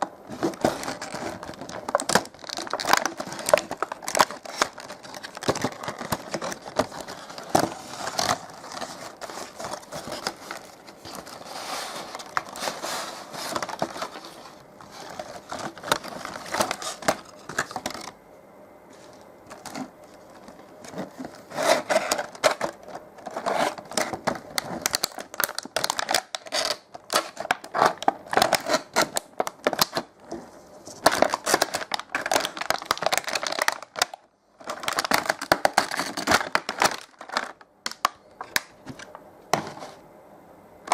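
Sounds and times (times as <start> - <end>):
packaging crinkling and scraping: 0.0 - 18.2, 18.9 - 40.0.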